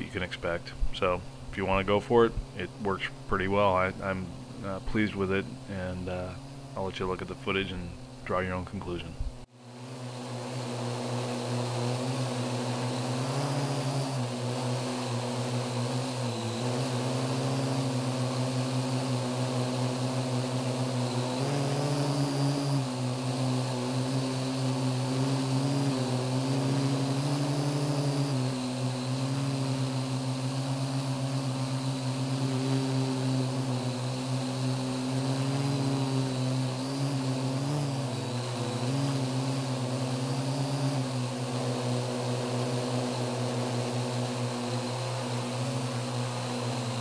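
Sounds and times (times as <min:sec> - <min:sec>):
drone propellers buzzing: 0:00.0 - 0:47.0.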